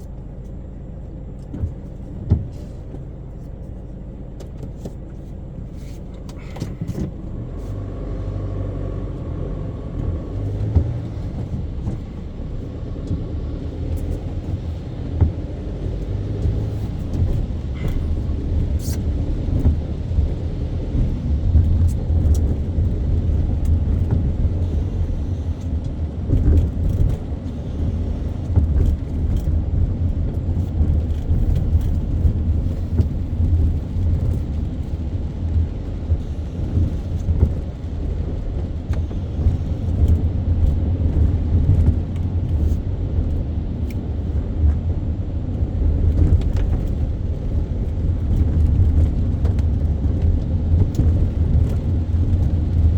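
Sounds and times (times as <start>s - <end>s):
road and engine rumble: 0.0s - 52.9s.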